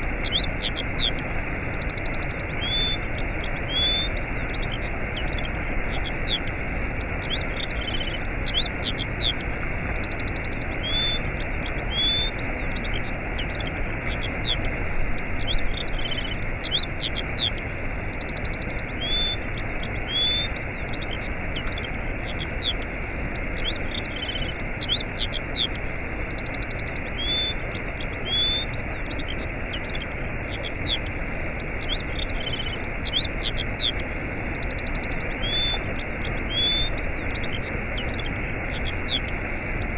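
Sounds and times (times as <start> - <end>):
songbirds chirping and trilling: 0.0 - 39.9
waterfall rushing: 0.0 - 39.9.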